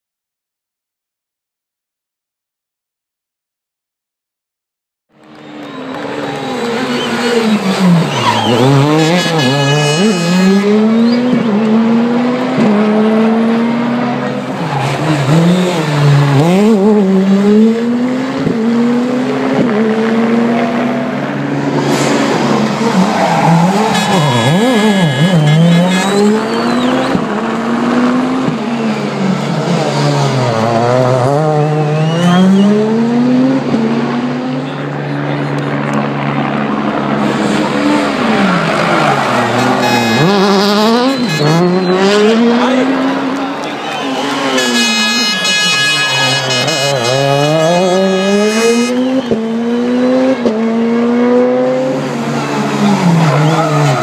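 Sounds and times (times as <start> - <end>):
rally car engine revving: 5.2 - 54.0.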